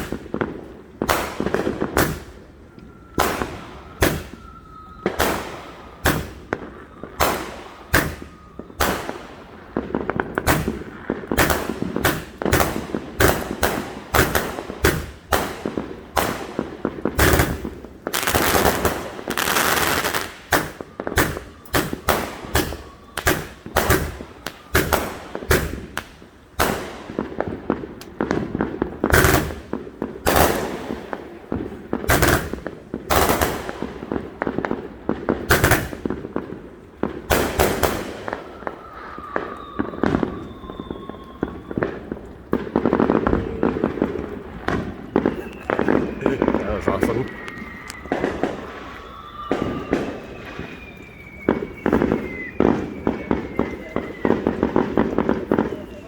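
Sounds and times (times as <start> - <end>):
dense firework crackling: 0.0 - 56.0
firework whistle: 0.0 - 56.0
fireworks bangs: 0.0 - 56.0.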